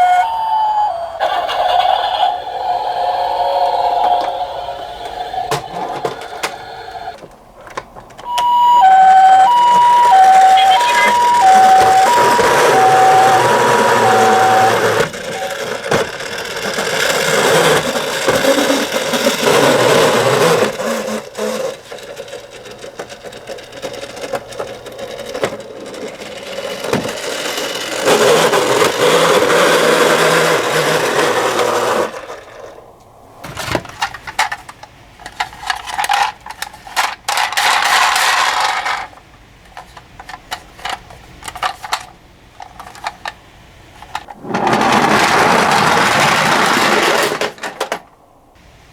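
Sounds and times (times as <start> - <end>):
toy cars rattling on plastic track: 1.3 - 7.9, 9.2 - 32.8, 33.4 - 48.2.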